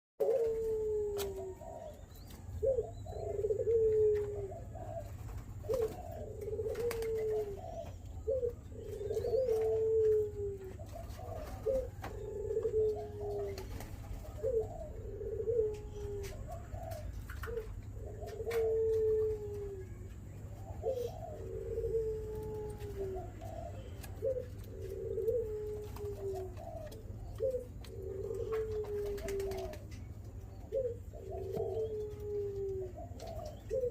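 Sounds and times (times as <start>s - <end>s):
dove cooing: 0.2s - 33.9s
low steady hum: 0.2s - 33.9s.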